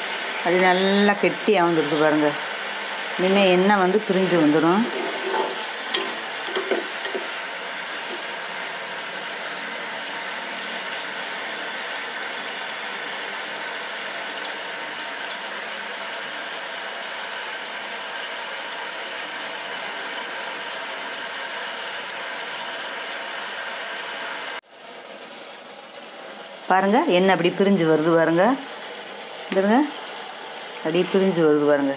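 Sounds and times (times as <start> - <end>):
coconut milk sizzling in pan: 0.0 - 31.9.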